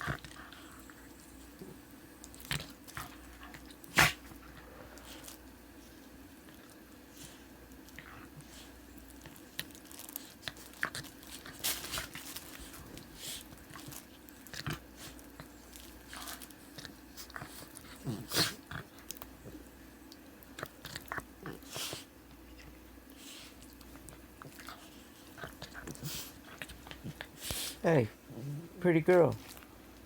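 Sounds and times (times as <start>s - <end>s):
dogs play-biting and chewing: 0.0s - 30.0s.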